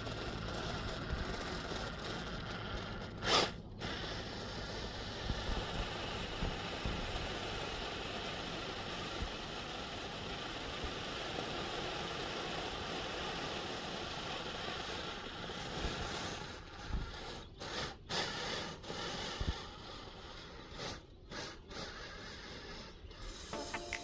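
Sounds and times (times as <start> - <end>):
toy car motor running: 0.0 - 24.0.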